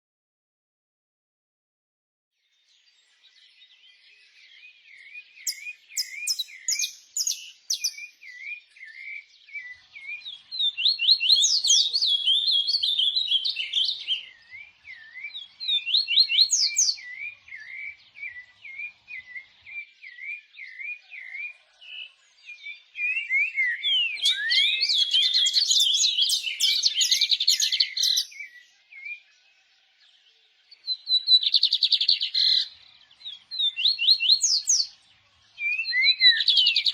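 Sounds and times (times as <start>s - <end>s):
songbirds singing and chirping: 2.4s - 36.9s.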